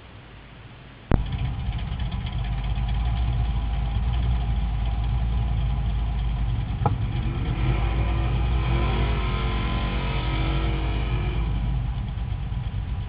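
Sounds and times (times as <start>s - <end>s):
truck engine idling: 1.1s - 13.0s.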